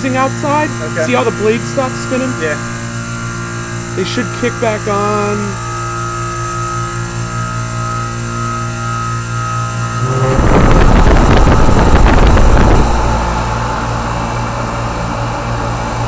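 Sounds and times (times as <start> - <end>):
air conditioning unit humming: 0.0 - 16.0
condenser fan rushing air: 0.0 - 16.0.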